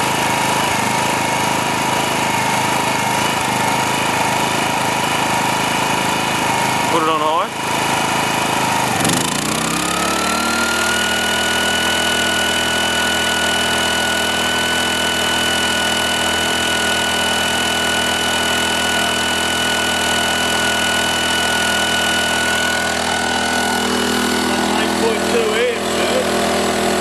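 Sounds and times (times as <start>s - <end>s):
generator engine speeding up: 0.0s - 27.0s.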